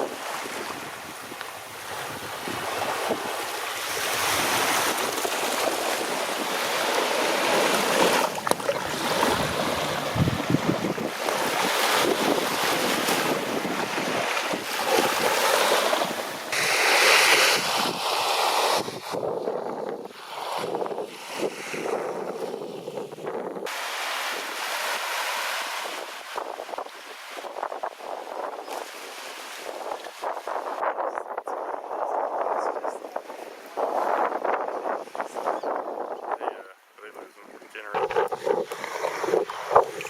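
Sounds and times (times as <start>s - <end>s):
water splashing around kayak: 0.0s - 19.4s, 20.0s - 30.8s, 37.8s - 40.0s
wind buffeting microphone: 0.0s - 40.0s.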